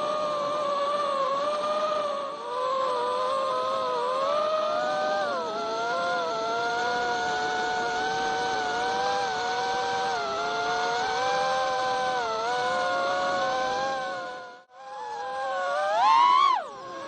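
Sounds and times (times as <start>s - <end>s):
small engine humming: 0.0s - 17.0s.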